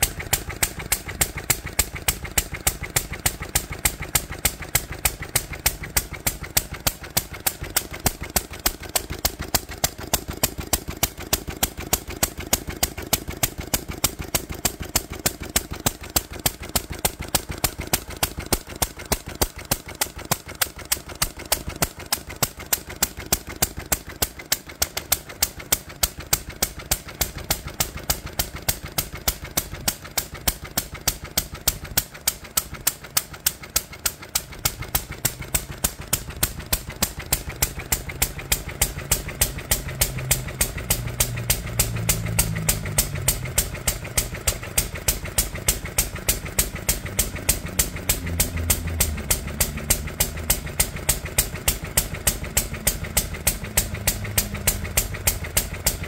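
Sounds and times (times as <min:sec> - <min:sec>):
stationary engine exhaust popping: 0:00.0 - 0:56.0.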